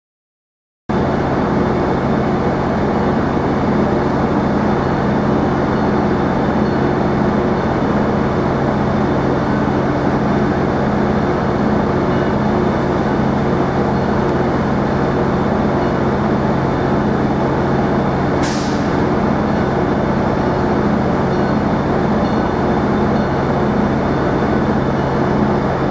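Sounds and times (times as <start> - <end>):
train engine running: 0.9 - 25.9.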